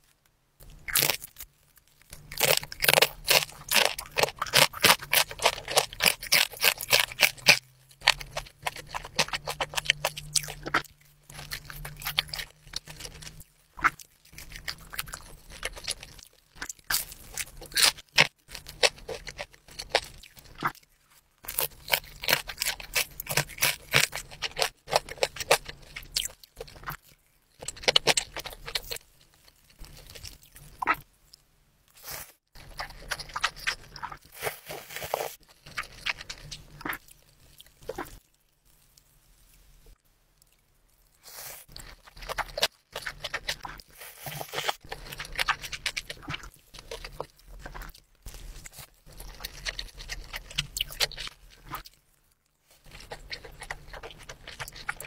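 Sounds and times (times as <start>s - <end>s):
crunching dumplings being chewed: 0.6s - 55.0s.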